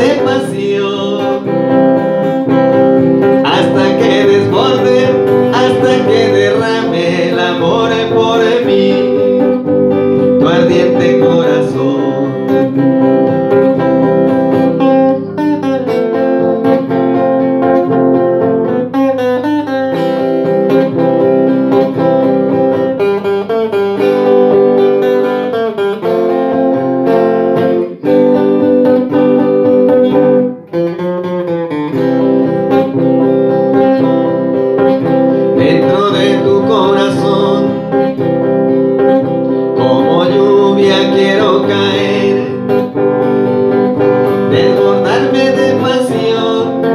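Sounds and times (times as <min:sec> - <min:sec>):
electric guitar solo: 0:00.0 - 0:46.9.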